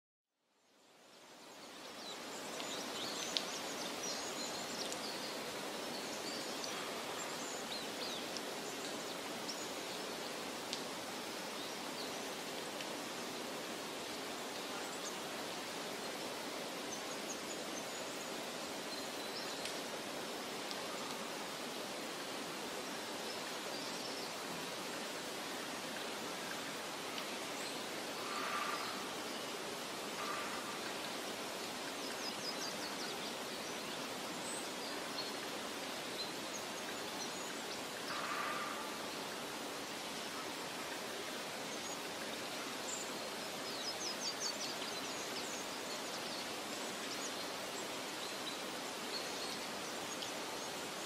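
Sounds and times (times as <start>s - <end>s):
steady rushing hiss: 0.6s - 51.0s.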